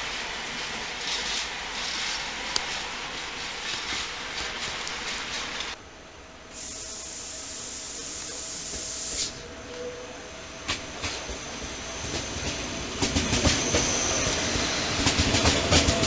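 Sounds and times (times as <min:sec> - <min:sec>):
steady high hiss: 0:00.0 - 0:15.5
train moving with rail noise: 0:00.0 - 0:16.0.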